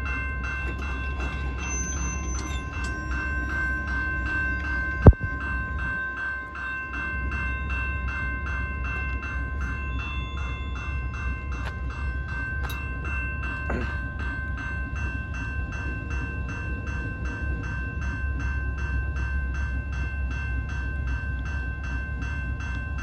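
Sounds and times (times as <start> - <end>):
railroad crossing bell ringing: 0.0 - 23.0
train rumble: 0.0 - 23.0.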